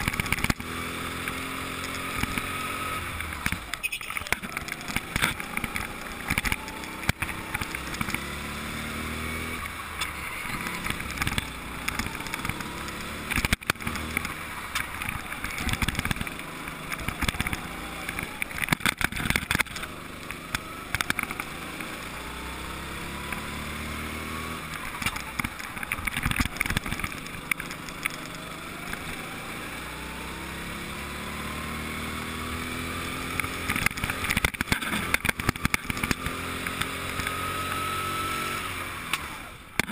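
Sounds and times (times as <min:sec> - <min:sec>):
kart rattling and knocking: 0:00.0 - 0:22.2, 0:24.2 - 0:29.6, 0:33.2 - 0:37.6
go-kart engine revving: 0:00.0 - 0:39.9.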